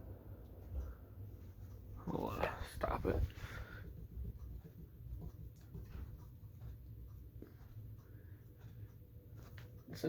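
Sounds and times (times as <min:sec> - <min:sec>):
ceiling fan low rumble: 0:00.0 - 0:10.0.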